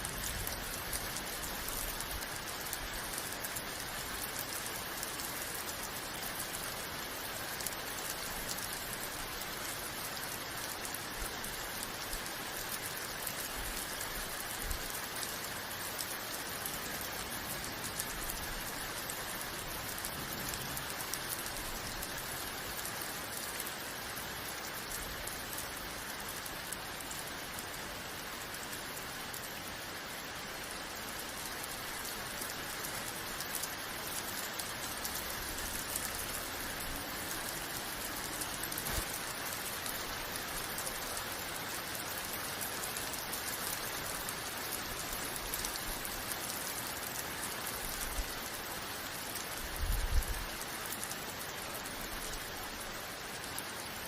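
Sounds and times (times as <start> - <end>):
rain patter: 0.0 - 54.0.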